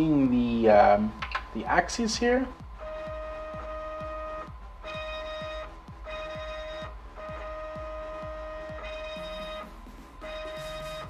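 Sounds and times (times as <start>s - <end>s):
stepper motors whining: 0.0s - 11.0s.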